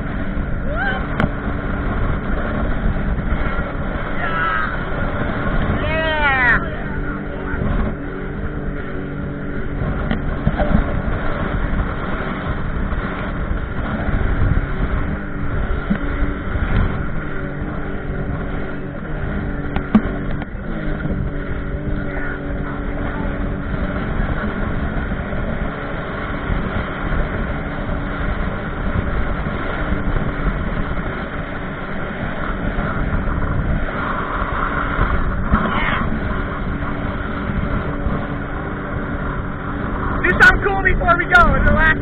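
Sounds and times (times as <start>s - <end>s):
jet ski engine running: 0.0s - 42.0s
water rushing along hull: 0.0s - 42.0s.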